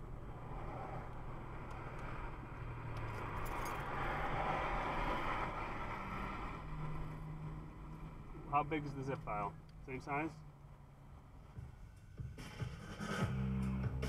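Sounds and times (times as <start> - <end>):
car engine hum: 0.0 - 14.0
road noise: 0.0 - 14.0.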